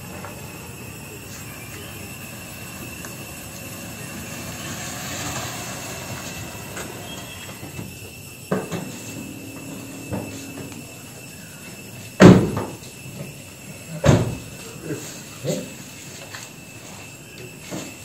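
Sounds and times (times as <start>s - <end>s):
thin high whine: 0.0s - 18.0s.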